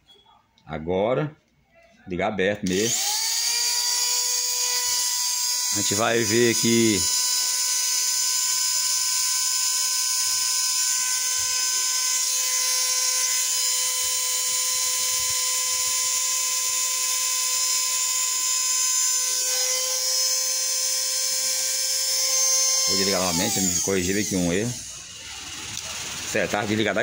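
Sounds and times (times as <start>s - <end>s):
hair dryer motor whining: 2.7s - 27.0s.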